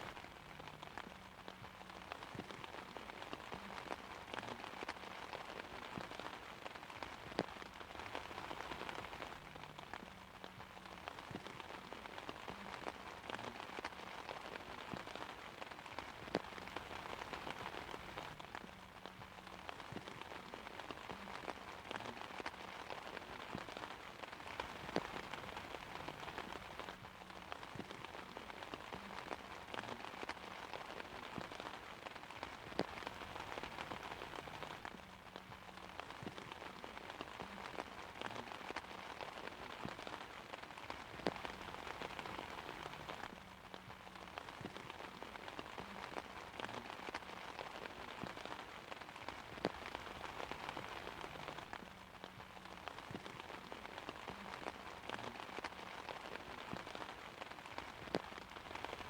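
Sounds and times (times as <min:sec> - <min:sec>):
rain falling on an umbrella: 0:00.0 - 0:59.0.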